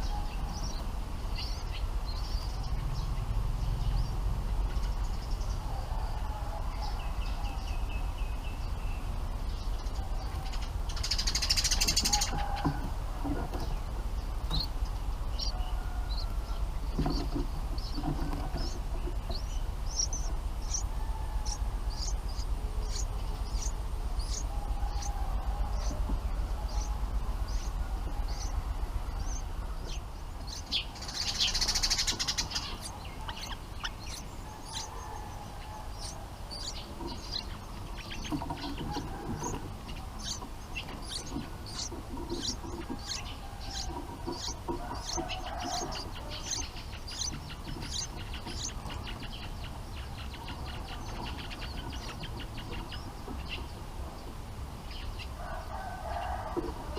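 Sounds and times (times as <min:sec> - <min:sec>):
birds chirping: 0:00.0 - 0:56.9
low background rumble: 0:00.0 - 0:56.9.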